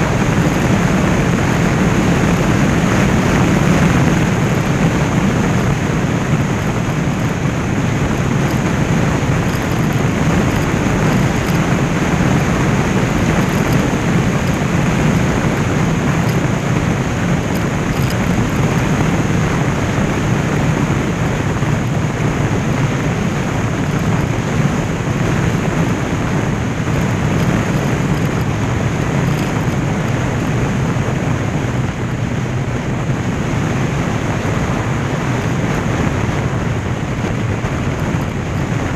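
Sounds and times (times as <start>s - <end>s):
vehicle running at road speed: 0.0s - 38.9s
wind noise on microphone: 0.0s - 38.9s.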